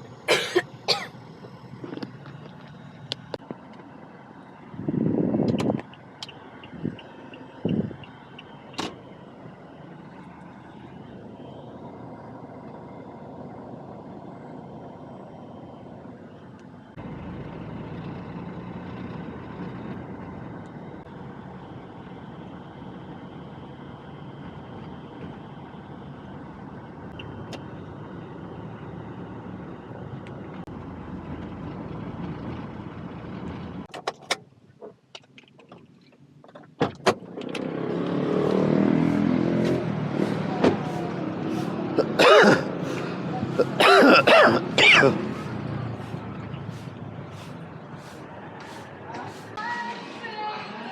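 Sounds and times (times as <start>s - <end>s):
vehicle engine and road noise: 0.0s - 50.9s.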